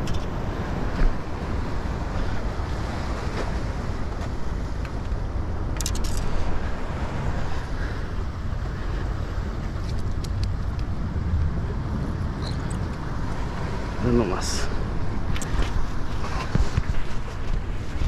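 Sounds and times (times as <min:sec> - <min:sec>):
surf on rocks: 0:00.0 - 0:18.0
wind rushing on microphone: 0:00.0 - 0:18.0.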